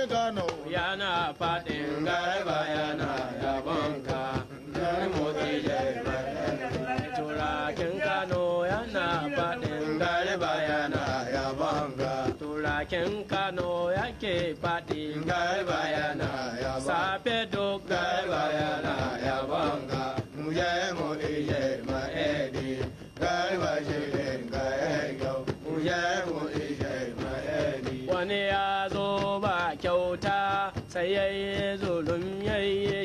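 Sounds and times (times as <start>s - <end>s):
hand drums: 0.0s - 33.0s
men chanting a song: 0.0s - 33.0s.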